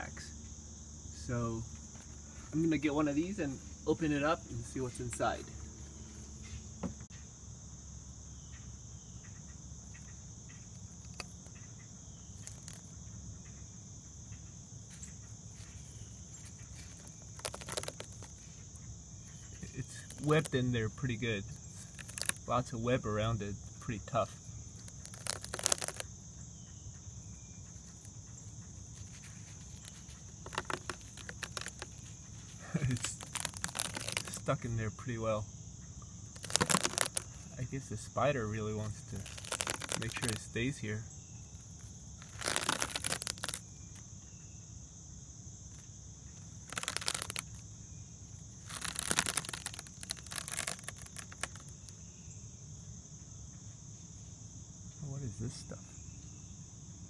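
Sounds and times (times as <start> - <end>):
insects trilling: 0.0 - 57.0
crackling and rustling of web: 1.2 - 7.2, 9.0 - 35.4, 36.0 - 44.4, 45.4 - 52.4.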